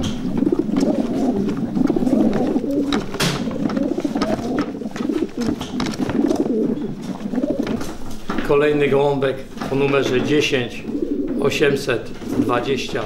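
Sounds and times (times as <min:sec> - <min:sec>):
pigeons cooing: 0:00.0 - 0:08.3, 0:09.7 - 0:13.0.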